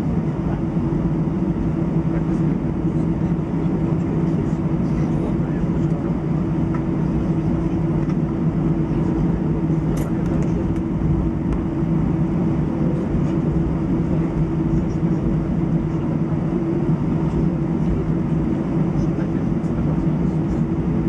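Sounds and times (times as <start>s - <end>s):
aircraft engines humming: 0.0s - 21.0s.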